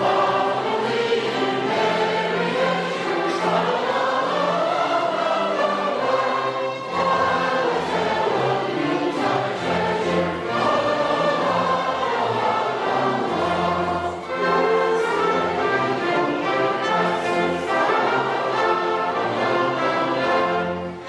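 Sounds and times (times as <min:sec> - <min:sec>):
choir singing with orchestra: 0:00.0 - 0:21.0.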